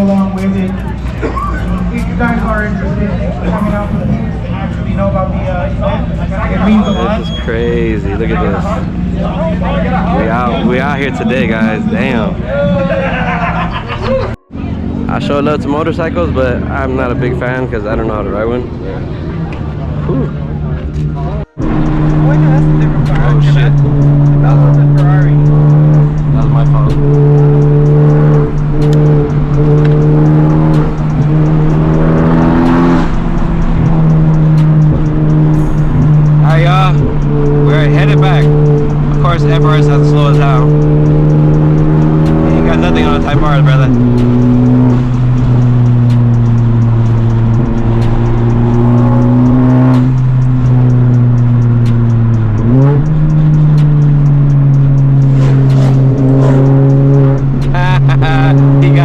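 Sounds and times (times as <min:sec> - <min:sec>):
car engine droning while driving: 0:00.0 - 0:59.0.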